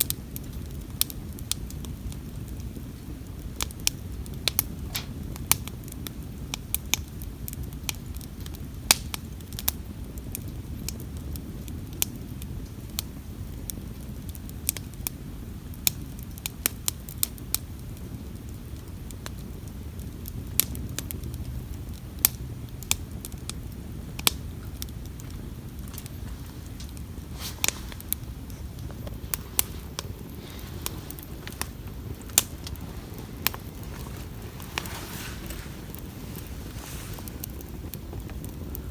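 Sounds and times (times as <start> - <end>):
burning wood popping: 0.0 - 38.9
campfire crackling: 0.0 - 38.9
low fire rumble: 0.0 - 38.9.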